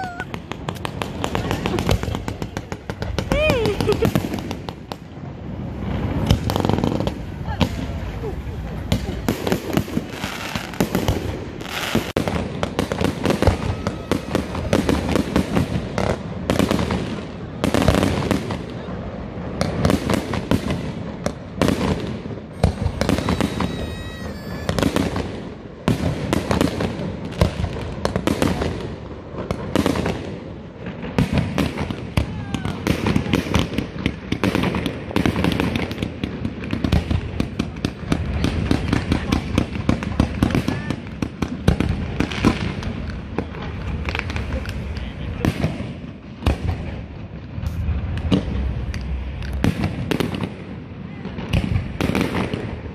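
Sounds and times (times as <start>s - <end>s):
fireworks bursting and crackling: 0.0s - 52.9s.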